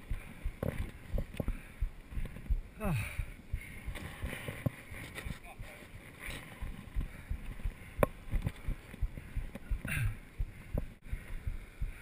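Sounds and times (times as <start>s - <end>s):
running footsteps on a trail: 0.0s - 11.6s.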